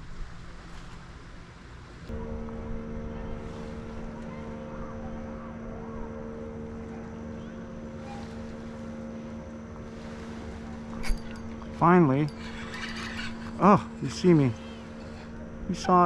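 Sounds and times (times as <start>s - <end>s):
small boat motor humming: 0.0s - 16.0s.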